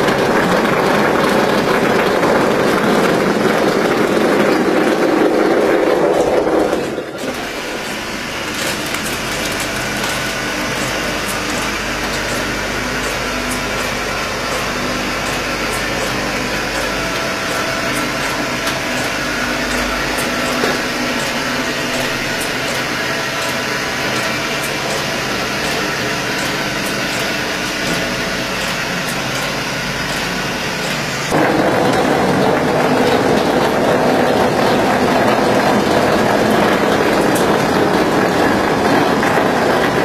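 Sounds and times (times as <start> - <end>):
plastering machine motor drone: 0.0 - 40.0.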